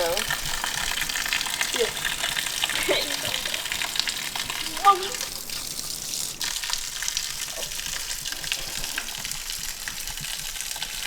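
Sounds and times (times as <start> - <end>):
running water hissing: 0.0 - 11.0.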